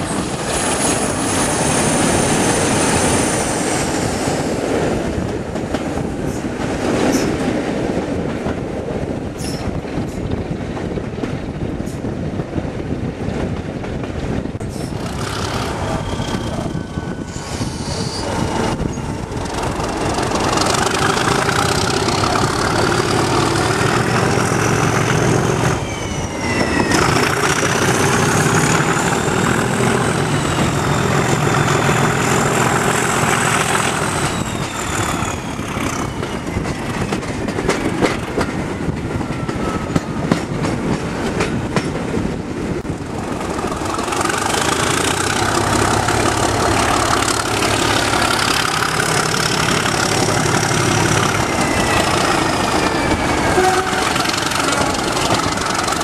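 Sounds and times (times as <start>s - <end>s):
diesel locomotive working hard: 0.0s - 56.0s
train running noise: 0.0s - 56.0s.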